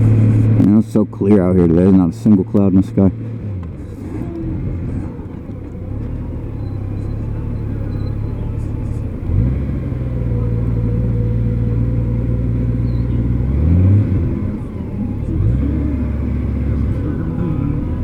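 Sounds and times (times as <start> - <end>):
motorcycle engine running and revving: 0.0 - 18.0.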